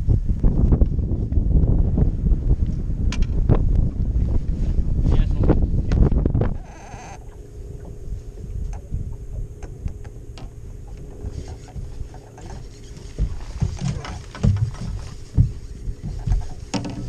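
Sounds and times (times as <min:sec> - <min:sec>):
faint hum: 0:00.0 - 0:17.0
wind buffeting microphone: 0:00.0 - 0:17.0.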